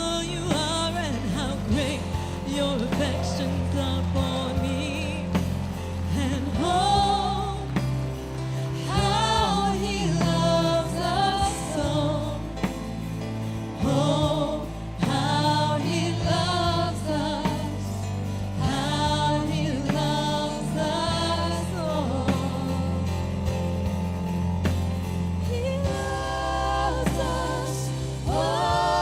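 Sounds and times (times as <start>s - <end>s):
person singing with vibrato: 0.0s - 23.8s, 25.4s - 29.0s
band bass: 0.0s - 29.0s.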